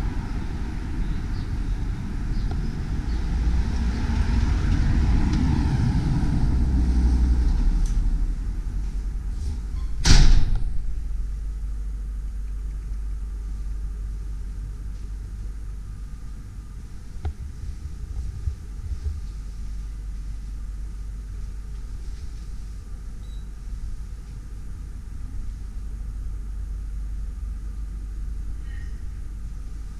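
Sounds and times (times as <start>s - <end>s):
low rumble of handheld camera: 0.0s - 29.9s.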